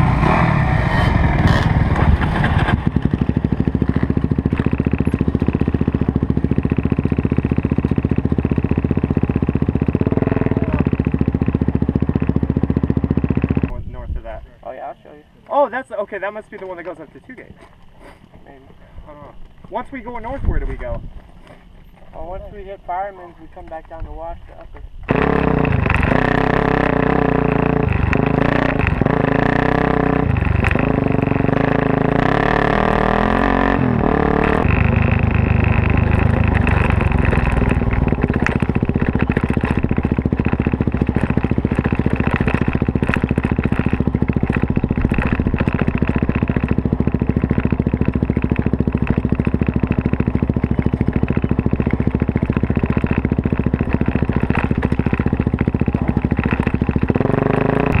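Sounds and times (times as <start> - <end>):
dirt bike engine revving: 0.0 - 14.0, 25.1 - 58.0.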